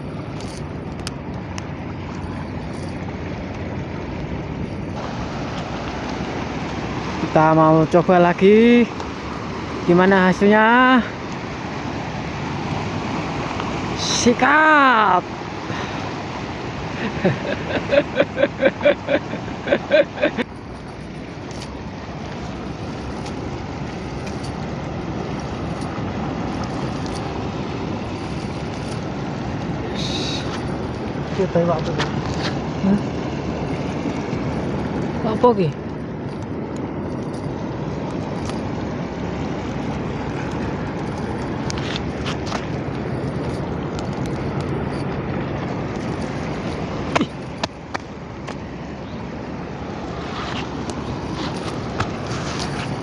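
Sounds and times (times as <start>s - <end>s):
wading through shallow water: 0.0s - 53.0s.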